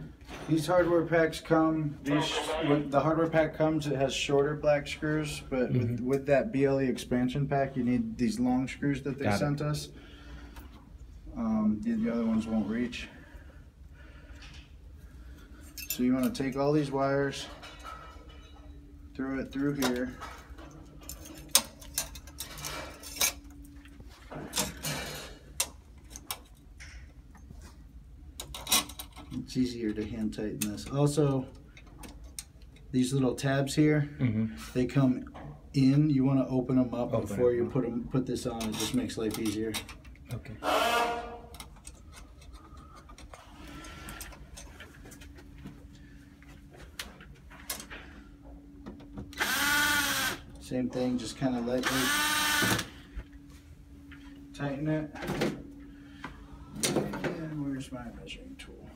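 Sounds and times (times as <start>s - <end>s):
low steady hum: 0.0s - 58.9s.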